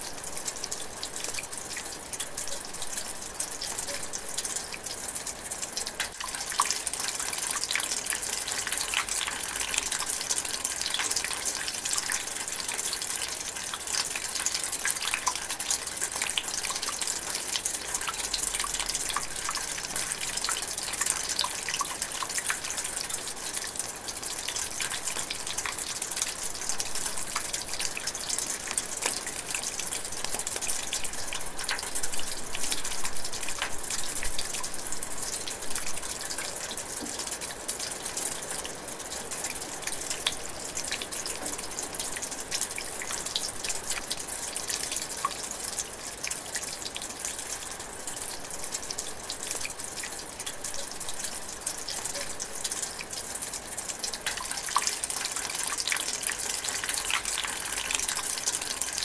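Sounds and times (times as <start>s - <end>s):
light rain drizzling: 0.0s - 59.0s.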